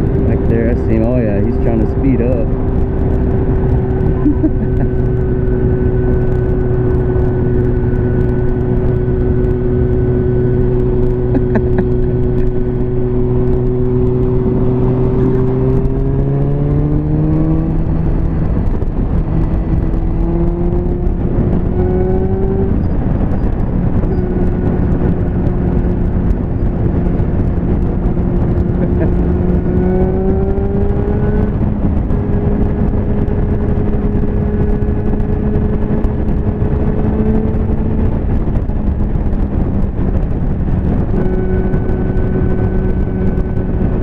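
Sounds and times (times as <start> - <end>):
motorcycle engine accelerating: 0.0 - 44.0
wind rush: 0.0 - 44.0.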